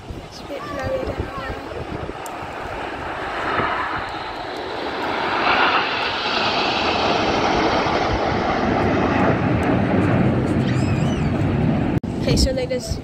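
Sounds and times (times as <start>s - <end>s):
jets flying past: 0.0s - 12.4s.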